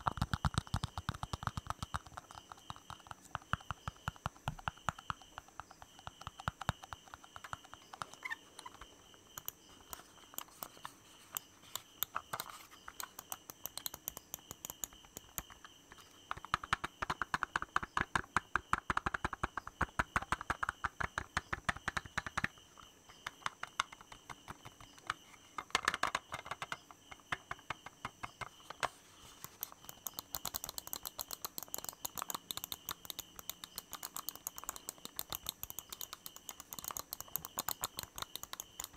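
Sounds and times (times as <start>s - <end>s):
fast tapping clicks: 0.0s - 38.9s.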